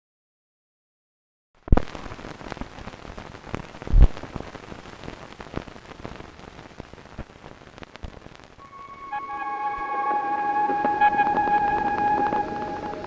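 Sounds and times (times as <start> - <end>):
crackling hiss with pops: 1.6 - 13.0.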